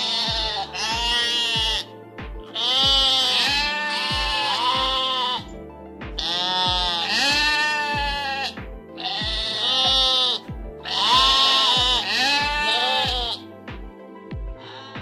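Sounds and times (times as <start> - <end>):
sheep bleating: 0.0 - 1.9, 2.5 - 5.5, 6.2 - 13.4
music with thumping beat: 0.0 - 15.0.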